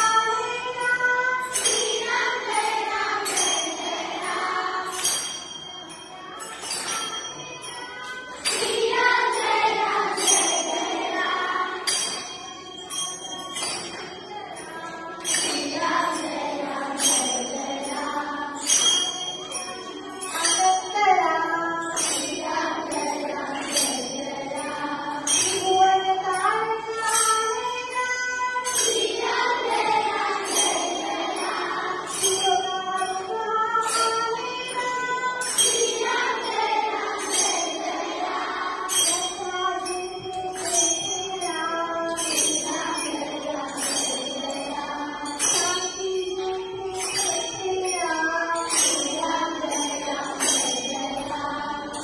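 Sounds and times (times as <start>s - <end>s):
jingling percussion beat: 0.0s - 52.0s
voices singing a melody: 0.0s - 52.0s.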